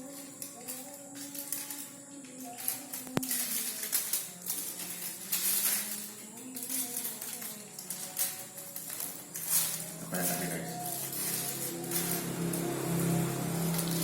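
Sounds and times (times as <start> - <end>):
background music with sustained notes: 0.0 - 14.0
food wrapper crackling: 0.0 - 14.0.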